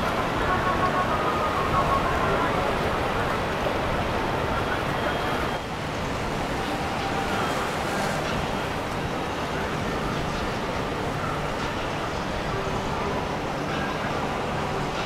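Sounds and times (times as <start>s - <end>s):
boat engines running: 0.0s - 15.0s
water noise: 0.0s - 15.0s.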